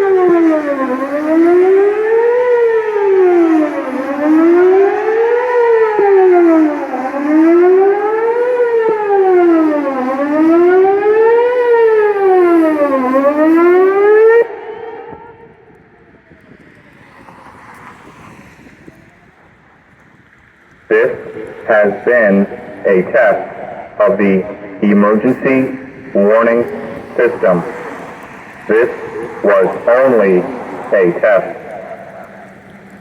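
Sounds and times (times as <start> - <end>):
warning siren wailing: 0.0 - 19.6, 20.9 - 33.0.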